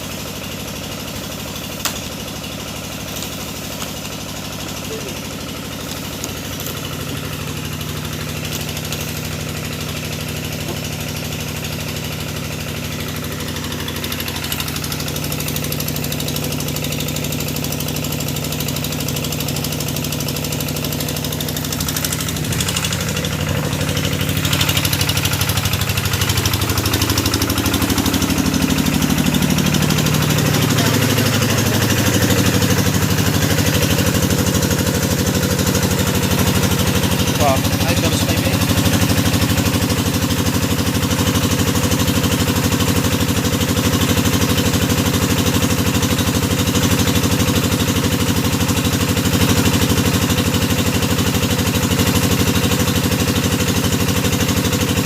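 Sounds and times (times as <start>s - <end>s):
drilling machine engine running: 0.0s - 55.0s.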